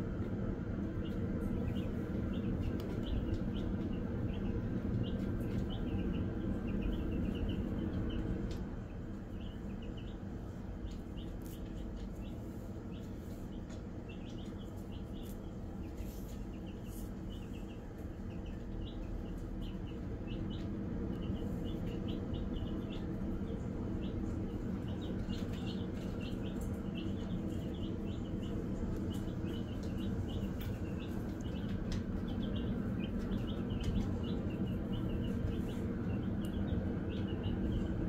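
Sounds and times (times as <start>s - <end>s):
chicks peeping: 0.0s - 38.0s
steady low hum: 0.0s - 38.0s.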